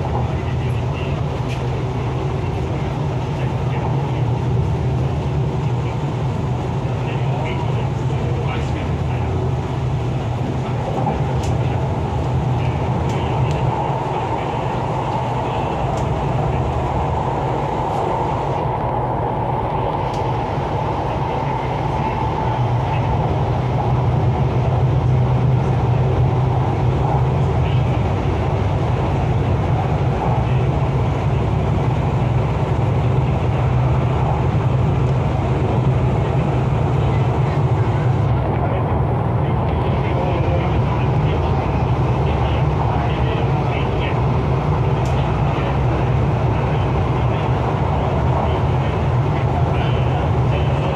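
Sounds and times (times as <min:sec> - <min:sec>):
train wheels rumbling: 0:00.0 - 0:50.9.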